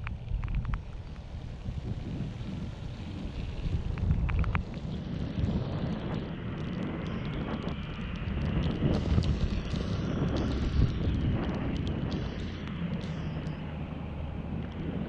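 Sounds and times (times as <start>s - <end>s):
road noise: 0.0s - 15.0s
sharp ticks: 0.0s - 15.0s
wind buffeting microphone: 0.0s - 15.0s.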